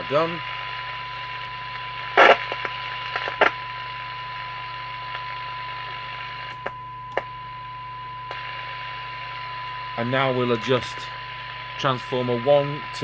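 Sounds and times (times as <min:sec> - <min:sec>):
radio receiver hiss: 0:00.0 - 0:07.4, 0:08.2 - 0:13.0
mains hum: 0:00.0 - 0:13.0.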